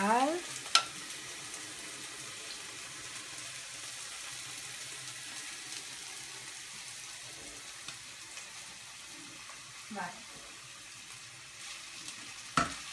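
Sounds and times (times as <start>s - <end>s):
mushrooms sizzling in oil: 0.0s - 12.9s.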